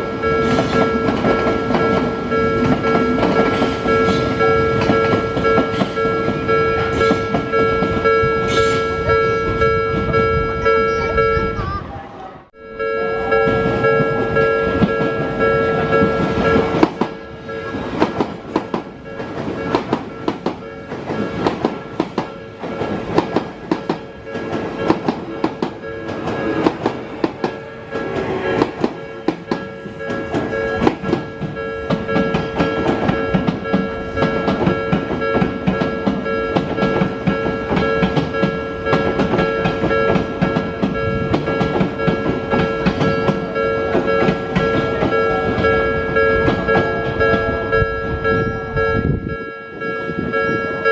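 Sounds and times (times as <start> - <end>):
level crossing bell ringing: 0.0 - 11.6, 12.6 - 17.9, 19.0 - 21.4, 24.0 - 50.9
train rolling rumble: 0.0 - 50.9
train wheels clicking over rail joints: 0.1 - 10.2, 13.4 - 47.9.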